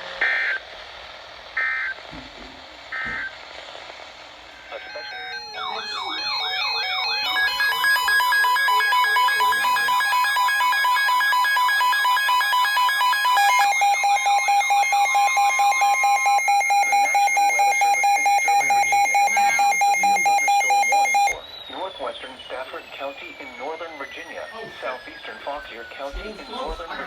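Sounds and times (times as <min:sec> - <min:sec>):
warbling alarm tones: 0:04.7 - 0:27.0
steady alert tones: 0:04.8 - 0:26.7
fast pulsing beep: 0:04.8 - 0:27.0.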